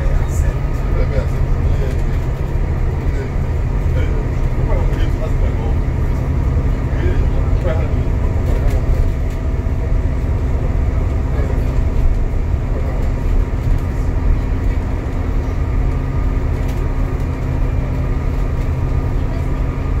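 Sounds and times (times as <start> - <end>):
bus engine drone: 0.0 - 20.0
road and tyre rumble: 0.0 - 20.0.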